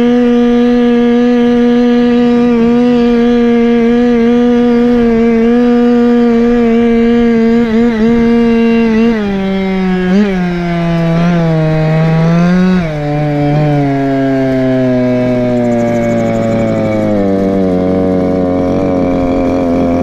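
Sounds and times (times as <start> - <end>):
two-stroke scooter engine revving: 0.0 - 20.0.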